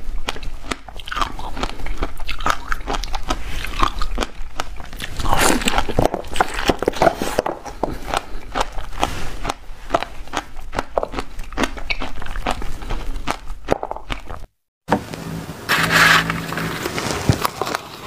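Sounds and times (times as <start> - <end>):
crunchy chewing: 0.0 - 14.5, 15.8 - 18.0.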